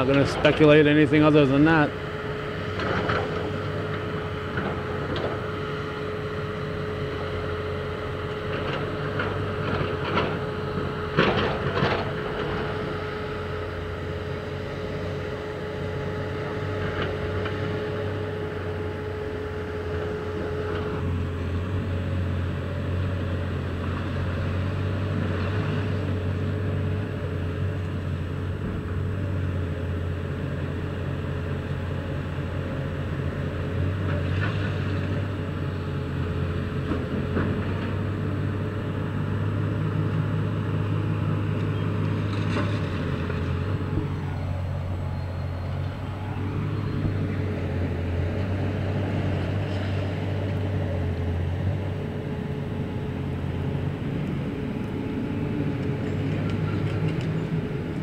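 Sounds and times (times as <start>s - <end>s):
steady whine: 0.0s - 24.5s, 35.4s - 58.0s
excavator diesel engine running: 0.0s - 58.0s.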